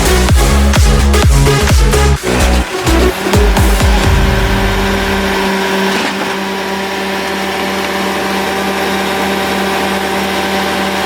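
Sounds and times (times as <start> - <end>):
tool carrier engine drone: 0.0 - 11.0.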